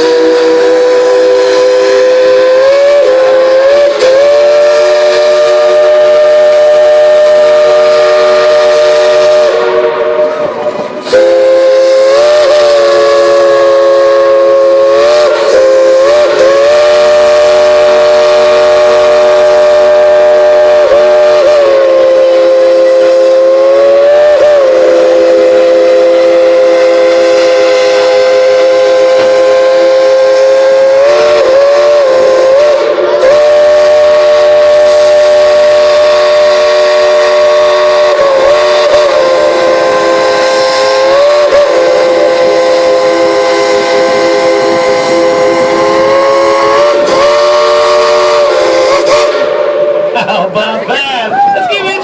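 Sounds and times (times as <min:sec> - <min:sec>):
steam locomotive whistle chord: 0:00.0 - 0:50.2.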